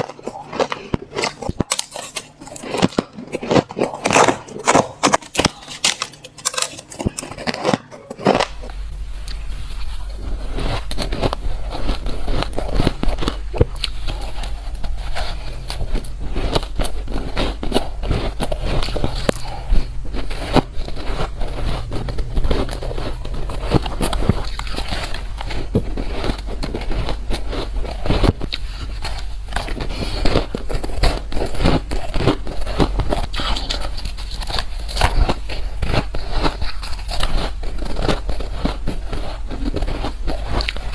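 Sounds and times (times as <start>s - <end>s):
crunching ice: 0.0s - 8.7s, 9.3s - 40.9s
steady low hum: 0.0s - 40.9s.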